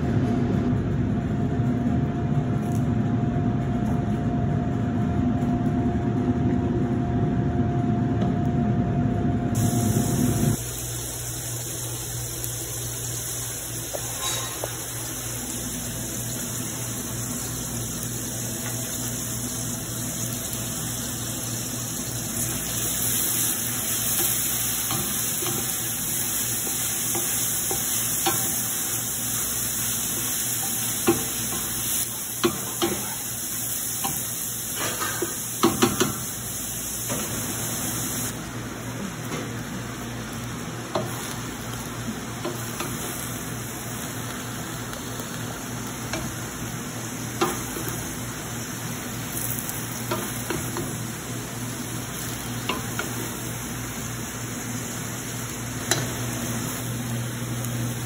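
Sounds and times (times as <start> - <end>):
vegetables sizzling in oil: 9.6 - 58.0.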